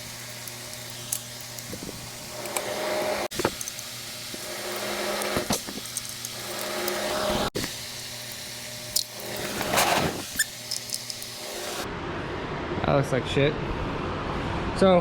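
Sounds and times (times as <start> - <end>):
steady machine hum: 0.0 - 12.8.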